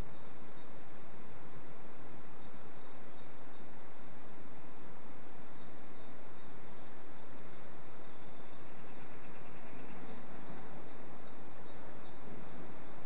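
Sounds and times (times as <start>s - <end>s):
faint high bird chirps: 0.0s - 3.8s, 4.7s - 13.0s
outdoor background noise: 0.0s - 13.0s.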